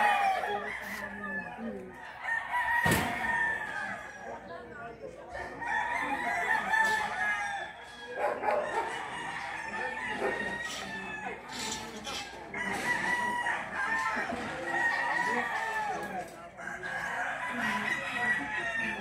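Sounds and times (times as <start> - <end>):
roosters crowing: 0.0 - 4.6, 5.3 - 19.0.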